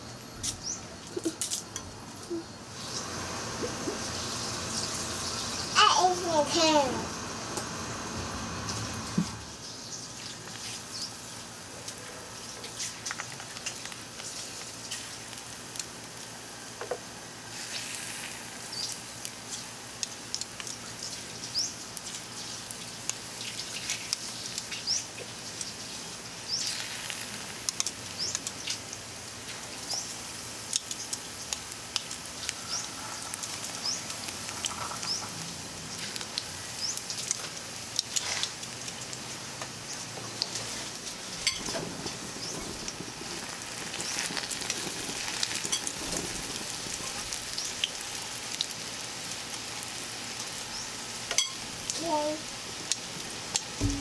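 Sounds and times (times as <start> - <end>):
leaves frying in oil: 0.0 - 54.0.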